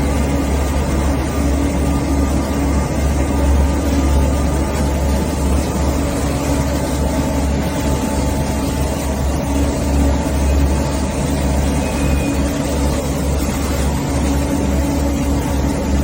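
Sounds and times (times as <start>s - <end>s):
pressure washer motor drone: 0.0s - 16.0s.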